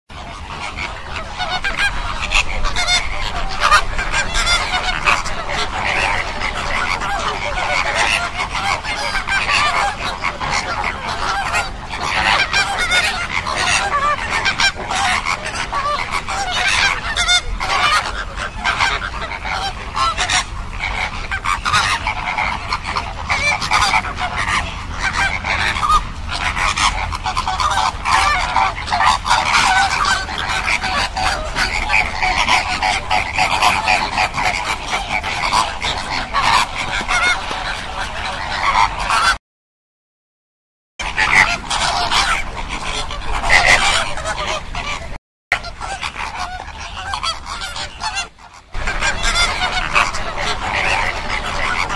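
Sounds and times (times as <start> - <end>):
flamingos honking and chattering: 0.1 - 39.4, 41.0 - 51.9.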